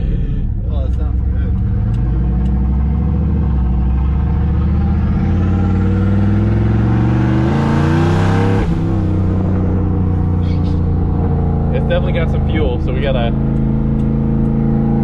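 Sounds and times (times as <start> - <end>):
truck engine accelerating: 0.0 - 15.0.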